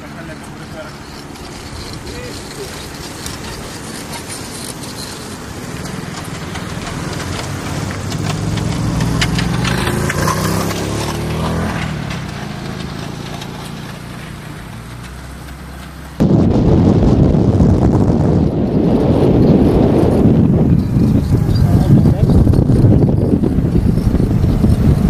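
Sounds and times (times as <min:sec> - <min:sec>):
wind buffeting microphone: 0:00.0 - 0:15.3, 0:15.9 - 0:25.0
car engine running: 0:00.0 - 0:25.0.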